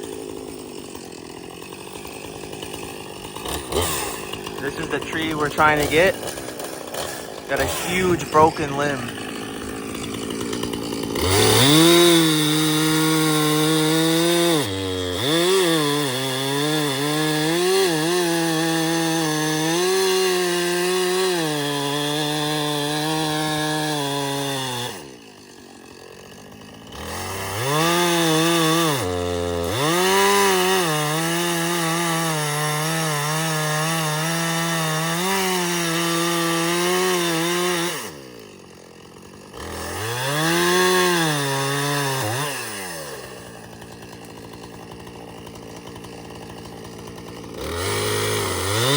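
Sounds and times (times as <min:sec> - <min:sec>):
chainsaw cutting wood: 0:00.0 - 0:48.9
chainsaw idling: 0:00.0 - 0:48.9.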